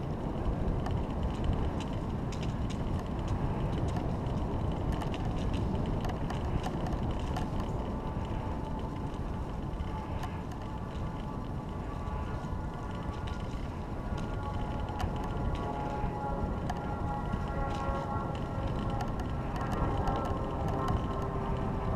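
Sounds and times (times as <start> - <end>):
bicycle clicks and rattles: 0.0 - 21.9
tyres rumbling on asphalt: 0.0 - 21.9
wind on microphone: 0.0 - 21.9.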